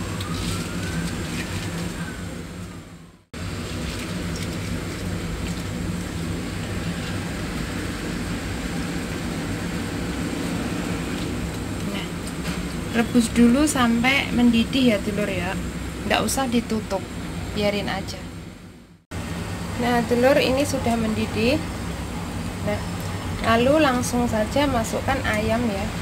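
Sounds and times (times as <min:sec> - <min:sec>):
machine rumble with low hum: 0:00.0 - 0:26.0.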